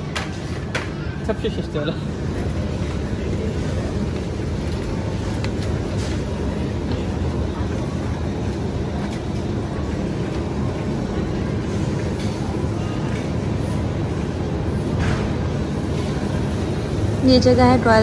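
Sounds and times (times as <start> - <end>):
shopping trolley wheels rumbling: 0.0 - 18.0.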